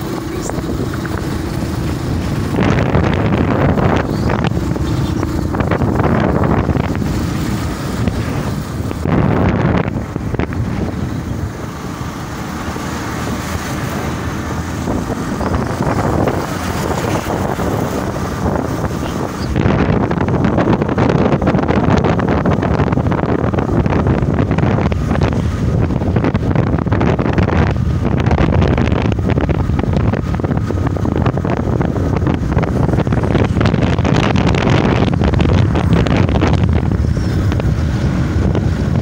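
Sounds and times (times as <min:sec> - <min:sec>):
motorcycle engine: 0:00.0 - 0:39.0
road noise: 0:00.0 - 0:39.0
wind buffeting microphone: 0:00.0 - 0:39.0.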